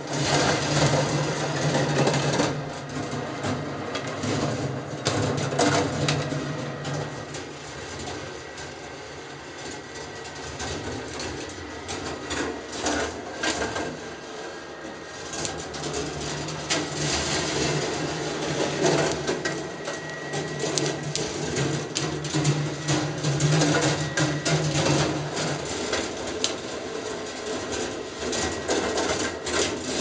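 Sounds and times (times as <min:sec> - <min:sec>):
low motor hum: 0:00.0 - 0:30.0
marbles clicking along wire tracks: 0:00.0 - 0:30.0.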